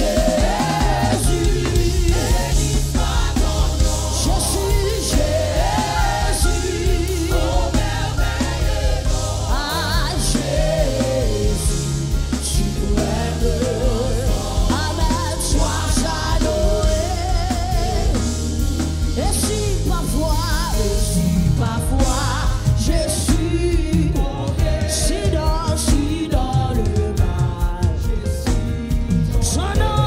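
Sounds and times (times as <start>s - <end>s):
drum kit: 0.0s - 30.0s
keyboard: 0.0s - 30.0s
singers in harmony: 0.0s - 30.0s.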